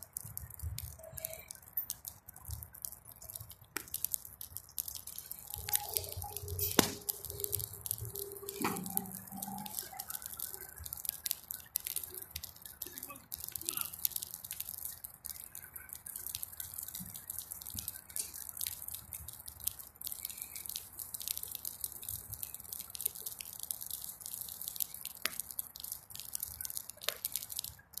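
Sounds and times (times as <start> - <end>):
bonfire crackling and popping: 0.0 - 28.0.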